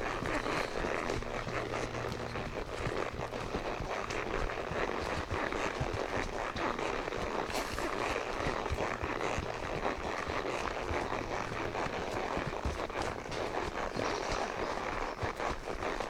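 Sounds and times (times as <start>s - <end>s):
hooves rustling through dry leaves: 0.0s - 16.0s.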